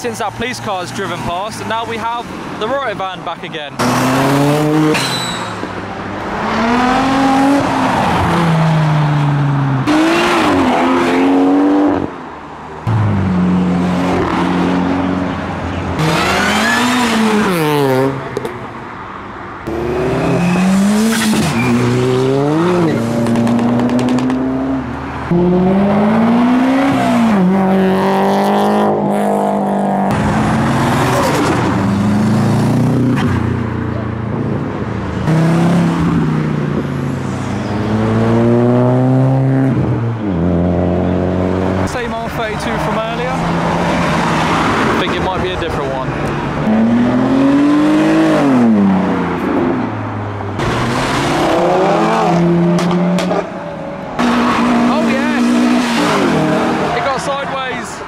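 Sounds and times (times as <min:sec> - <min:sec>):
car engines revving past: 0:03.7 - 0:58.0.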